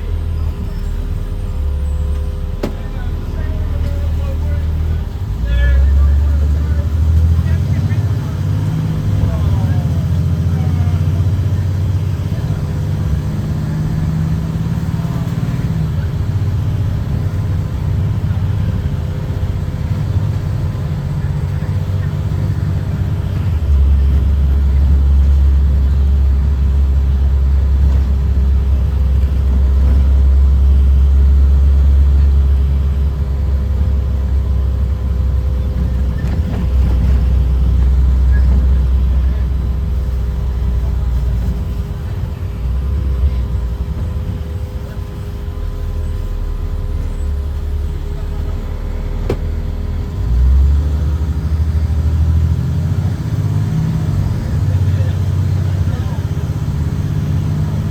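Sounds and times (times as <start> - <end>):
bus diesel engine drone: 0.0 - 57.9.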